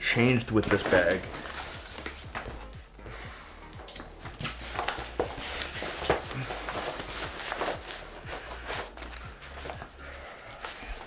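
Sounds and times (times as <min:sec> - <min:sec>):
nylon fabric rustling: 0:00.0 - 0:11.0.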